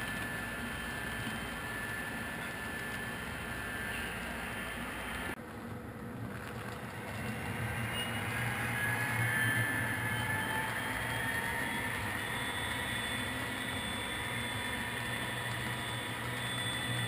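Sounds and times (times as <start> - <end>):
model locomotive motor hum: 0.0 - 17.0
model train wheels on rails: 0.0 - 17.0.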